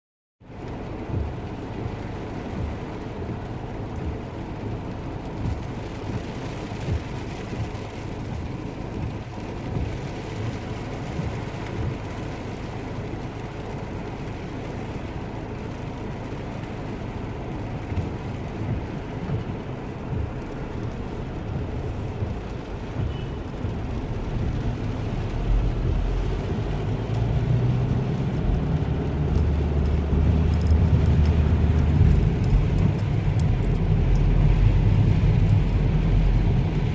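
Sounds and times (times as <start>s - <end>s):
low rumble of road traffic: 0.4s - 36.9s.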